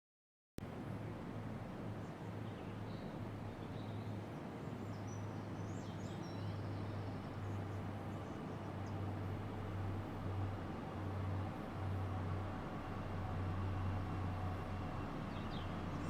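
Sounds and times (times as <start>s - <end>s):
constant low hum: 0.6s - 16.0s.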